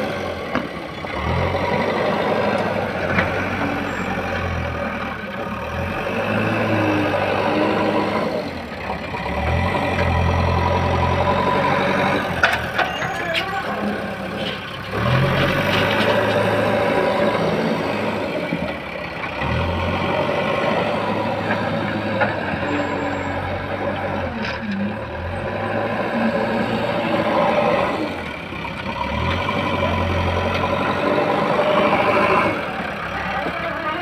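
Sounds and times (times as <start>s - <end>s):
diesel engine revving: 0.0s - 34.0s.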